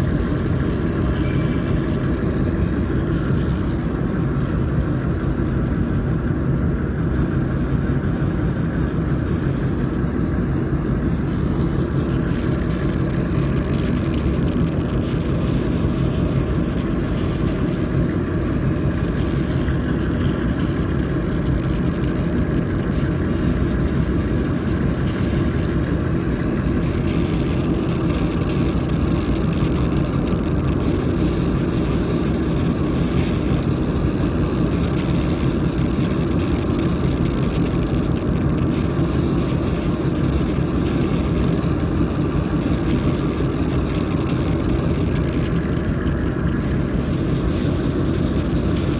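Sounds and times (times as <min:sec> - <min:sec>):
laser engraving machine rumble: 0:00.0 - 0:48.9.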